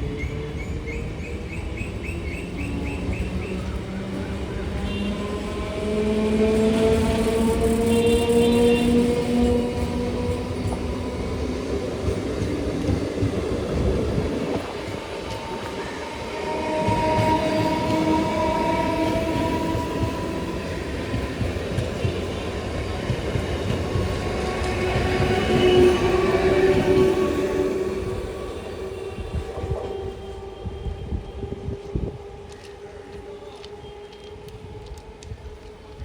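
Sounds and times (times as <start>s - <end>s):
drawn-out train tones: 0.0s - 36.0s
train wheels rumbling on rail: 0.0s - 36.0s.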